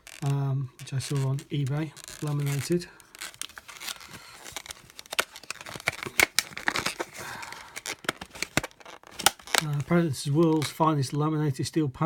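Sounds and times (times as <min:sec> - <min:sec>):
sharp clicks and crackles: 0:00.0 - 0:09.9
plastic packaging crinkling: 0:00.0 - 0:11.2.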